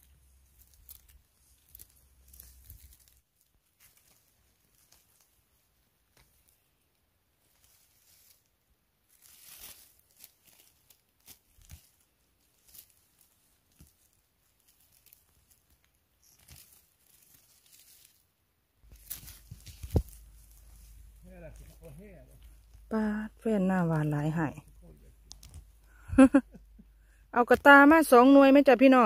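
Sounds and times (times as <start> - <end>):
rustling of moss and forest litter: 0.0 - 29.0.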